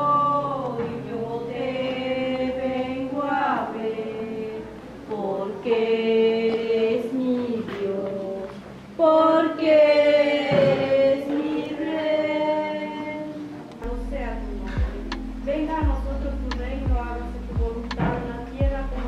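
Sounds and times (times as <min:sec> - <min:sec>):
voices singing long held notes: 0:00.0 - 0:19.0.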